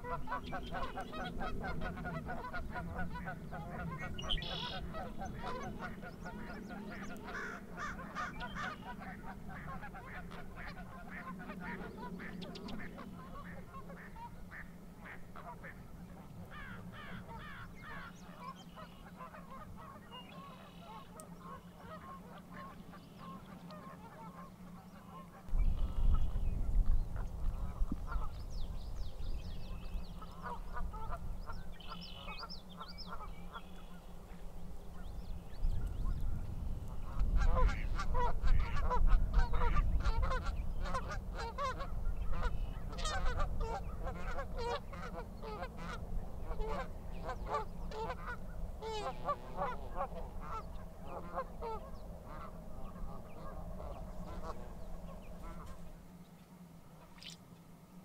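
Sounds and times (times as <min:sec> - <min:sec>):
geese honking: 0:00.0 - 0:26.4, 0:27.2 - 0:28.4, 0:29.6 - 0:35.1, 0:35.7 - 0:56.0
ducks calling: 0:00.0 - 0:56.0.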